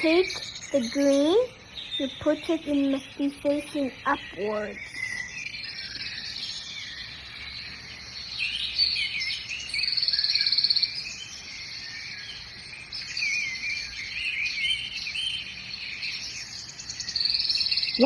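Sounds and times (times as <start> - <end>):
birds chirping and singing: 0.0 - 18.0
insect trill: 0.0 - 18.0.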